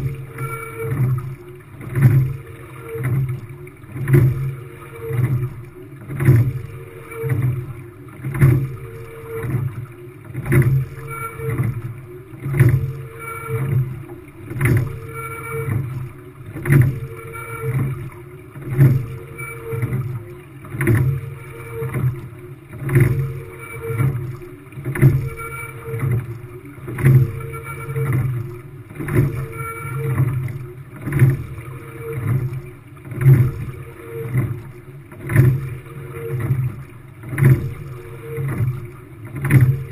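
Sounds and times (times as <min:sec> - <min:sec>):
water surging along hull: 0:00.0 - 0:39.9.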